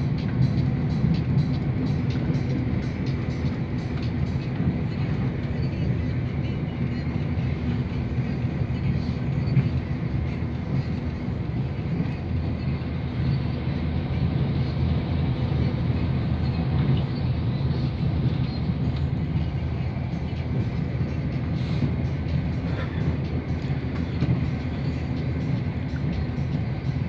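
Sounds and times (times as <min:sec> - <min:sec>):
diesel train rumbling inside carriage: 0:00.0 - 0:27.0.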